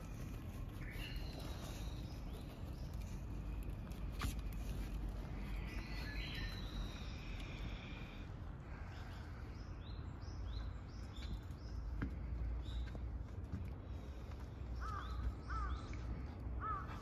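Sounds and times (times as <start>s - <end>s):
bird singing: 0.0s - 4.0s, 5.2s - 13.0s, 14.7s - 17.0s
low background rumble: 0.0s - 17.0s.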